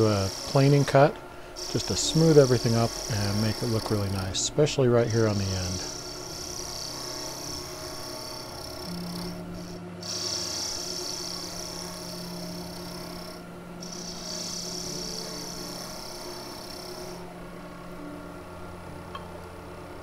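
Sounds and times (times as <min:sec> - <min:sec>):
chisel cutting wood hiss: 0:00.0 - 0:17.3
wood lathe humming: 0:00.0 - 0:20.0.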